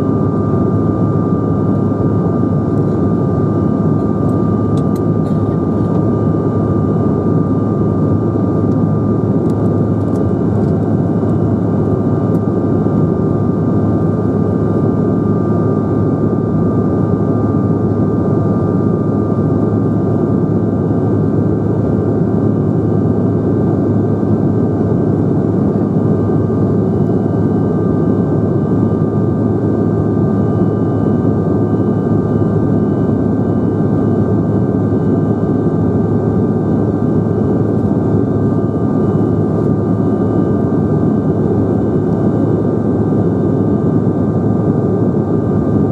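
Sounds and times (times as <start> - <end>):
jet engine and airflow roar: 0.0 - 45.9.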